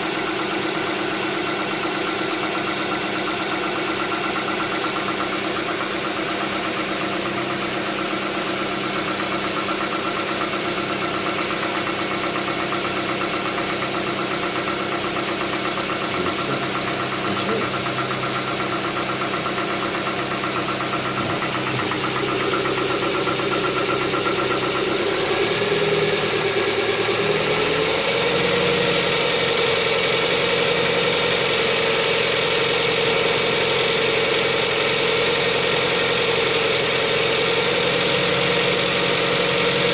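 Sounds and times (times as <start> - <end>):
car engine idling with rapid ticking: 0.0 - 39.9.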